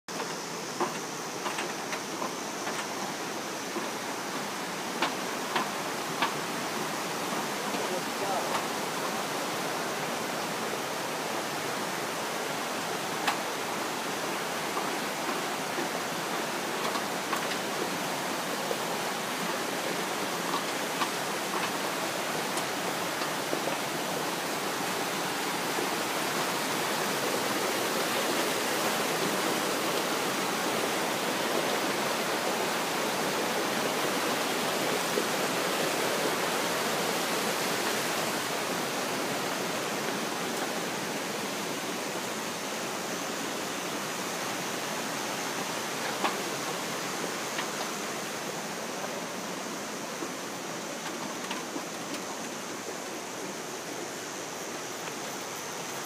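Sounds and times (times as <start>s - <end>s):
waterfall rushing water: 0.0s - 56.0s.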